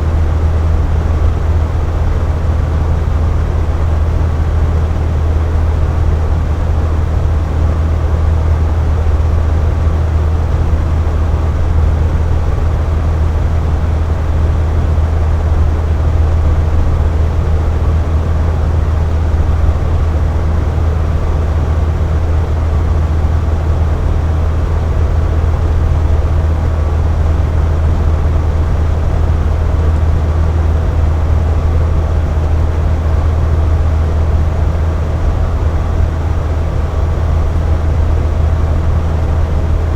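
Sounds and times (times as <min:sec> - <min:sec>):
box fan running: 0:00.0 - 0:39.9.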